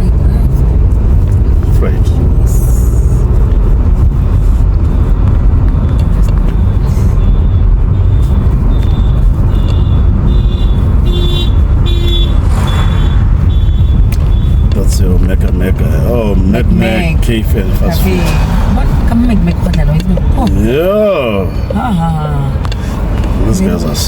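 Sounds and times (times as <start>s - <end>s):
car driving rumble: 0.0s - 24.0s.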